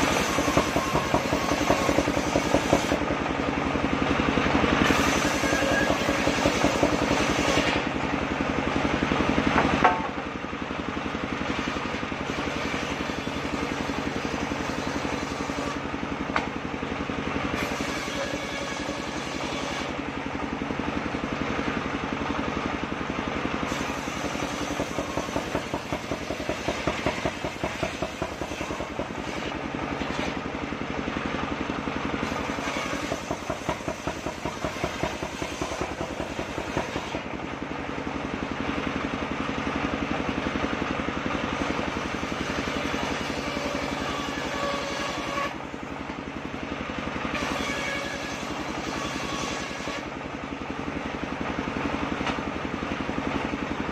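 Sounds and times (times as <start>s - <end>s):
engine-driven circular saw running: 0.0s - 53.9s.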